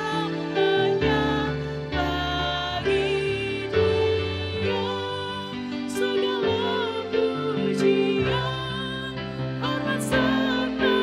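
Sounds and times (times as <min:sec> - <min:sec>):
instrumental accompaniment: 0:00.0 - 0:11.0
woman singing: 0:00.0 - 0:11.0.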